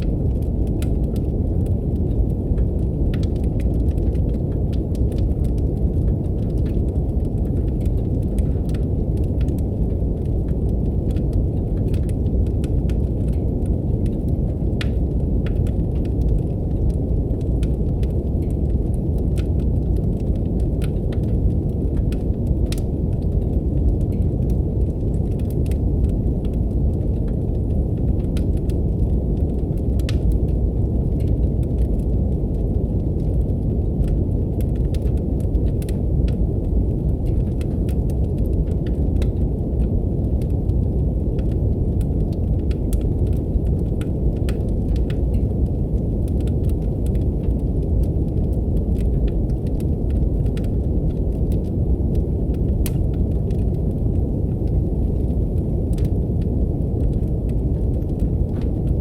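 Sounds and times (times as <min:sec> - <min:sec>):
brown noise hiss: 0:00.0 - 0:59.0
wood fire crackling: 0:00.0 - 0:59.0.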